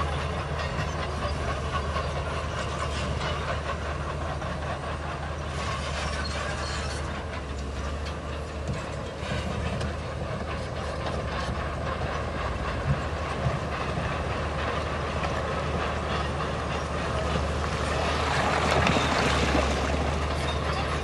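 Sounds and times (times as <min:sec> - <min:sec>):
bulldozer diesel engine humming: 0:00.0 - 0:21.0
steel tracks clanking: 0:00.0 - 0:21.0.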